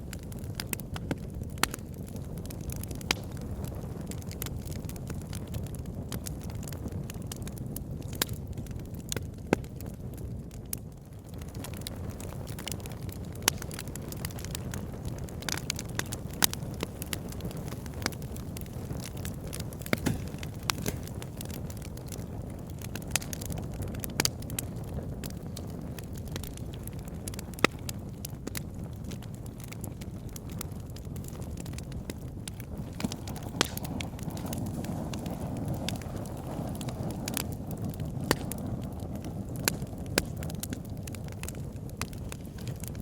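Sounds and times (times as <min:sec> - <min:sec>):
fire crackling and popping: 0:00.0 - 0:43.0
low rush of flame: 0:00.0 - 0:43.0.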